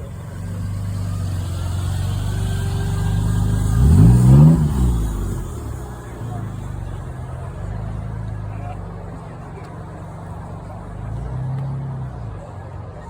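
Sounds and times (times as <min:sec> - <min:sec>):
car engine running and revving: 0:00.0 - 0:13.0.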